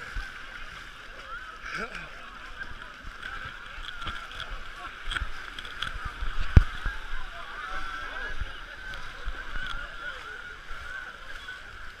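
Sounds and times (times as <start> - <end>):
crowd chatter: 0.0 - 12.0
water splashing: 0.0 - 12.0.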